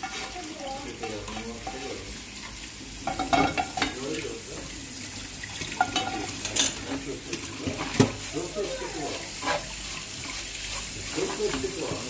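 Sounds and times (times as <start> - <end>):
spoon scraping and knocking pan: 0.0 - 4.7, 5.6 - 8.3, 9.1 - 12.0
light sizzle: 0.0 - 12.0.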